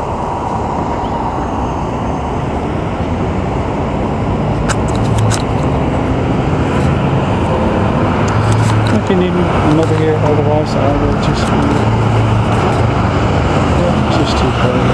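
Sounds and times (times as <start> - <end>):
street traffic: 0.0 - 14.9.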